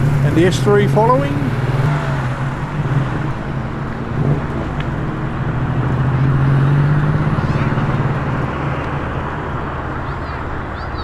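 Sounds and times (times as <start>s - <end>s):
car engine passing: 0.0s - 11.0s.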